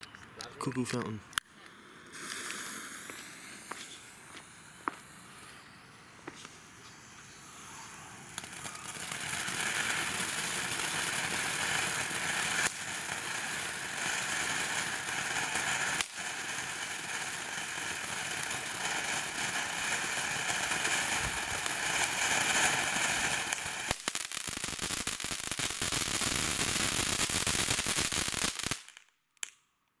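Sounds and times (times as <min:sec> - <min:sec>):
sharp firework cracks: 0:01.4 - 0:05.6, 0:06.2 - 0:29.6
firework fountain hissing: 0:01.5 - 0:28.9.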